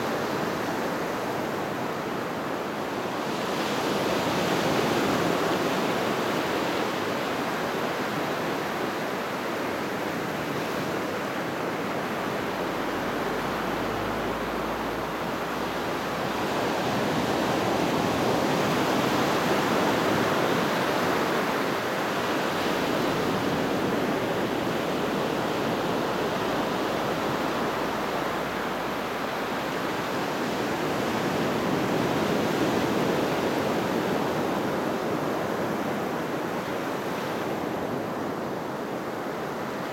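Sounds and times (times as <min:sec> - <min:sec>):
waves breaking on sand: 0:00.0 - 0:39.9.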